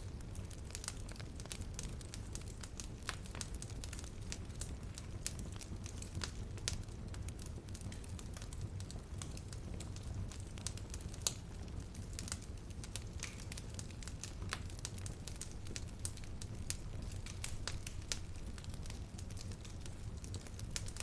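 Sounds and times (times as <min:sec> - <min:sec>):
fire pops and snaps: 0:00.0 - 0:21.0
low rumble of flames: 0:00.0 - 0:21.0.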